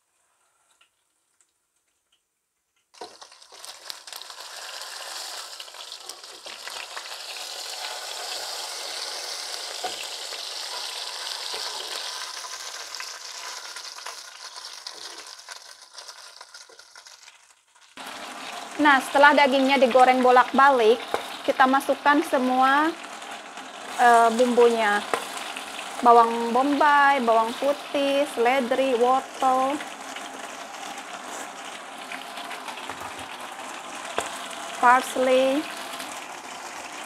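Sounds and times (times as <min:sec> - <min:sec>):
meat sizzling in hot oil: 0:03.0 - 0:37.0.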